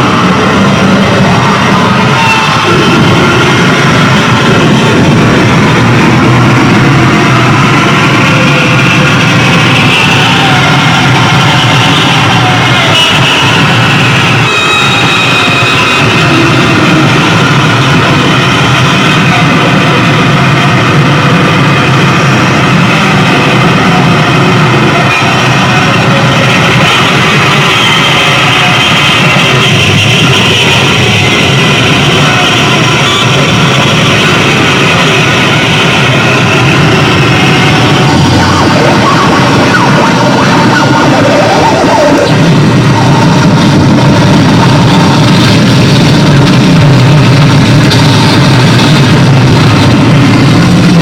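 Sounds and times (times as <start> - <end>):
distorted electronic noise: 0.0 - 51.0.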